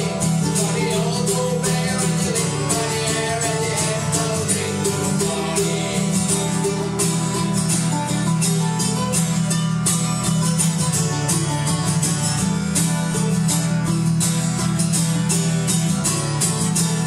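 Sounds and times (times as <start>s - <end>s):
acoustic guitar strumming: 0.0s - 17.0s
mandolin strumming: 0.0s - 17.0s.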